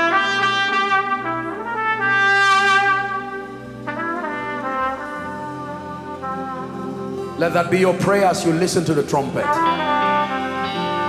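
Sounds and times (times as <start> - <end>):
solo trumpet playing: 0.0 - 8.0, 9.2 - 11.0.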